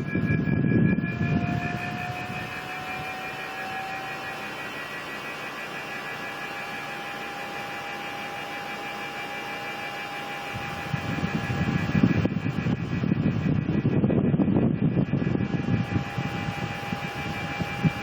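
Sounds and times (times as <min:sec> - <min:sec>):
air conditioner whine: 0:00.0 - 0:18.0
pulsing higher tone: 0:00.0 - 0:18.0.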